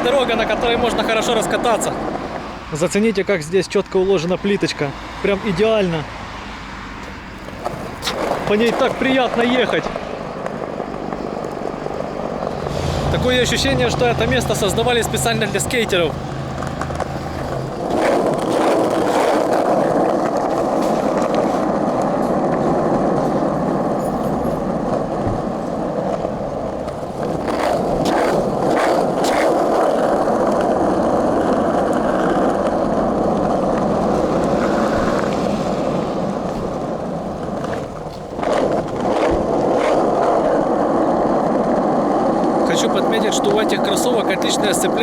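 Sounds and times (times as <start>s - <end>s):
skateboard wheels rolling on tiles: 0.0s - 2.6s, 7.0s - 45.0s.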